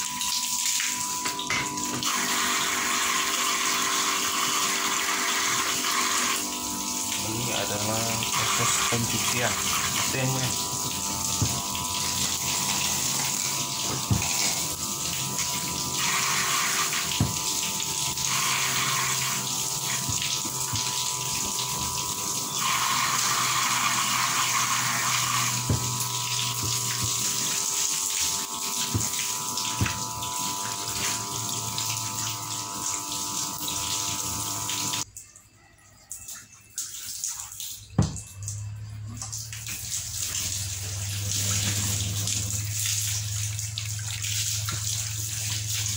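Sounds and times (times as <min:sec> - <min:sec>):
grinder motor hum: 0:00.0 - 0:35.1, 0:39.8 - 0:45.9.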